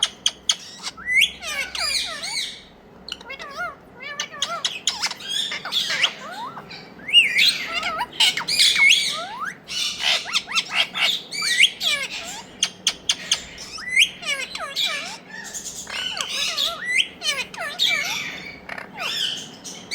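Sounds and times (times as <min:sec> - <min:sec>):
parakeet squawking and chirping: 0:00.0 - 0:19.9.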